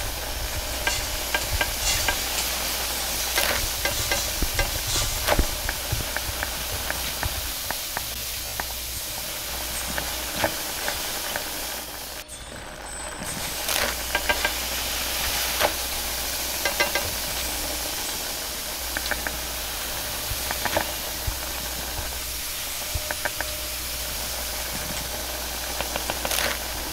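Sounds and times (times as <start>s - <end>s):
gas burner hissing: 0.0s - 26.9s
hot wok sizzling: 0.0s - 26.9s
metal utensil scraping wok: 0.0s - 26.9s.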